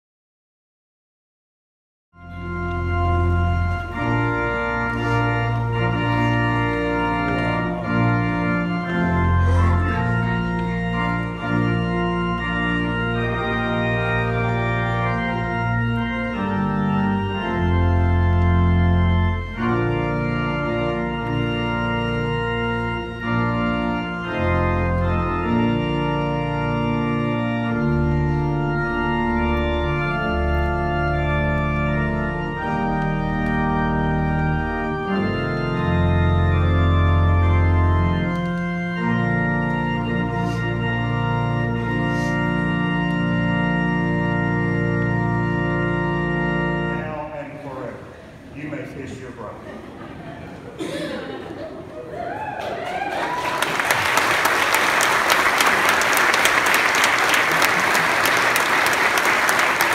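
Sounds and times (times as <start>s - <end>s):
church organ playing slow chords: 2.2s - 49.7s, 53.9s - 59.9s.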